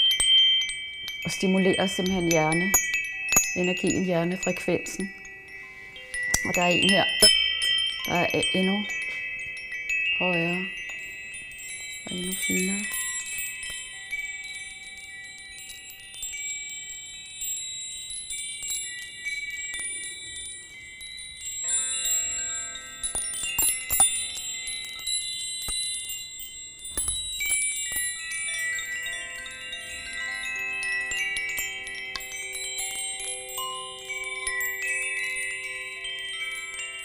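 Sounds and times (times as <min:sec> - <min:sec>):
bamboo chime ringing: 0:00.0 - 0:37.0
copper tube wind chime: 0:00.0 - 0:37.0
high metal chime tinkling: 0:00.0 - 0:37.0.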